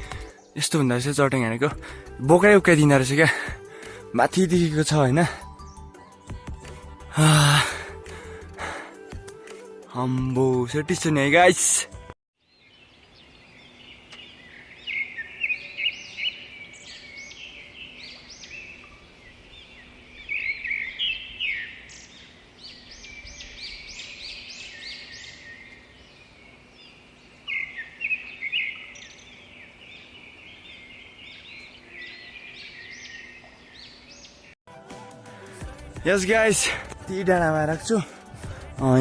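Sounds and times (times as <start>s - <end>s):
small birds chirping and trilling: 0.0s - 9.0s, 12.4s - 34.6s.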